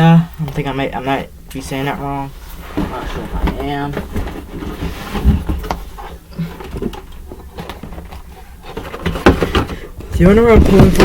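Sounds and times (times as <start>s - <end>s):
cardboard boxes rustling: 1.6s - 11.0s.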